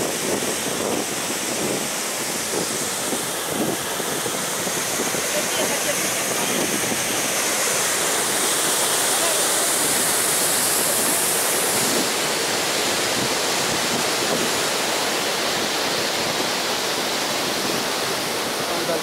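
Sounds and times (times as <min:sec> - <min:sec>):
waterfall rushing over rock: 0:00.0 - 0:19.0.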